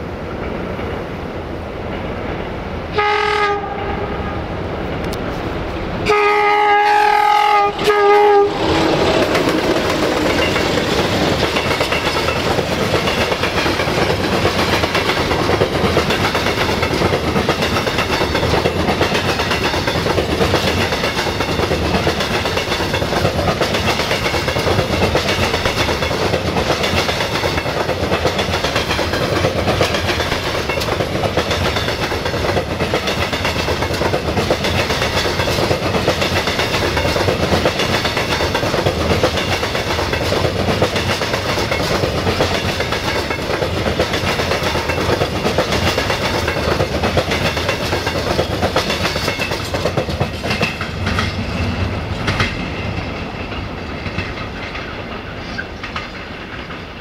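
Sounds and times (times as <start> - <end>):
freight train wheels clicking on rails: 4.7 - 57.0.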